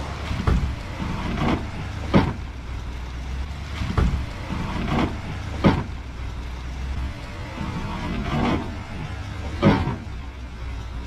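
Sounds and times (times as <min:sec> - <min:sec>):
pickup engine running low: 0:00.0 - 0:11.0.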